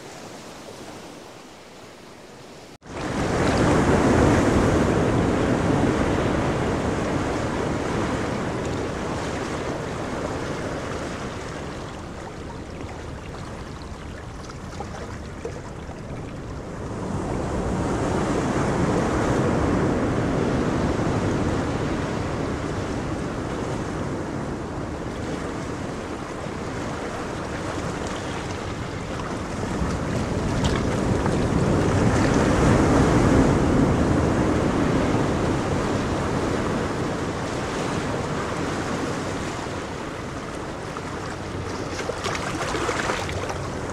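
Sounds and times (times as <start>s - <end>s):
ocean waves breaking: 2.7s - 43.9s.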